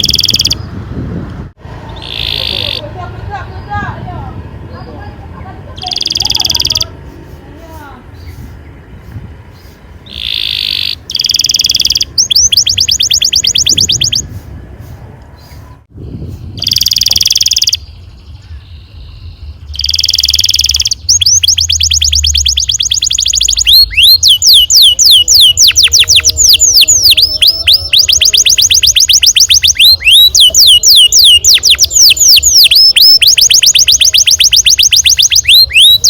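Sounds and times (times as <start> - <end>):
canary singing trills: 0.0 - 0.8, 1.8 - 14.4, 15.3 - 36.0.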